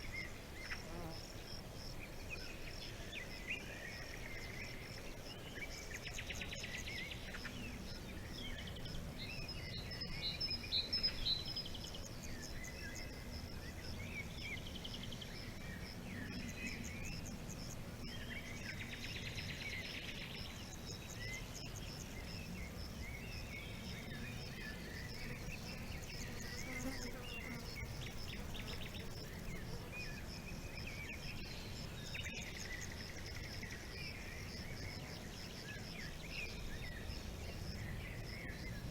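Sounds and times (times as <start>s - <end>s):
low background hiss: 0.0s - 38.9s
songbirds chirping and trilling: 0.0s - 38.9s.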